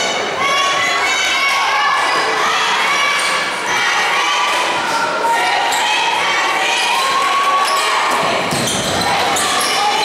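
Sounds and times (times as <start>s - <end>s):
crowd of voices calling out: 0.0s - 10.0s.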